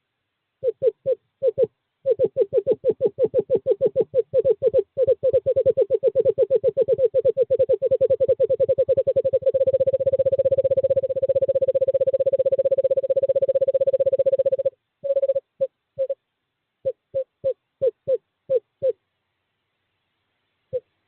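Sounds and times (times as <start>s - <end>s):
owl trilling: 0.6s - 16.2s, 16.8s - 19.0s.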